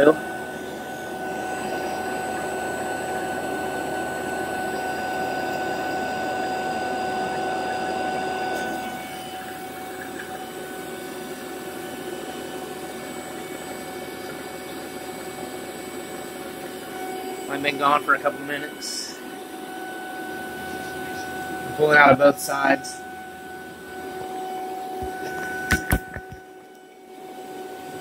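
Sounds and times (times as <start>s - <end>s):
vacuum pump humming and whining: 0.0s - 28.0s.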